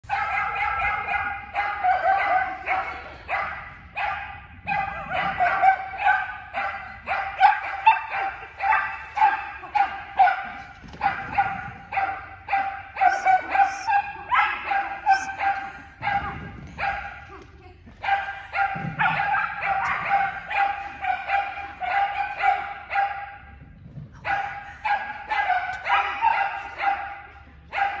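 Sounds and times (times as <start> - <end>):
small dog barking rapidly: 0.1 - 17.2, 18.0 - 23.4, 24.3 - 28.0.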